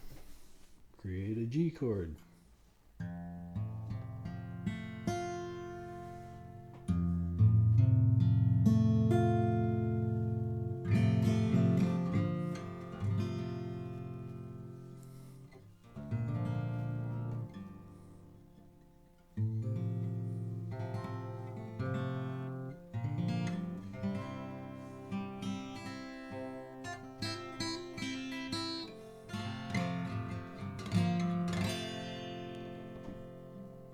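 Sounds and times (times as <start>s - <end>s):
acoustic guitar chords strummed: 0.0s - 33.9s.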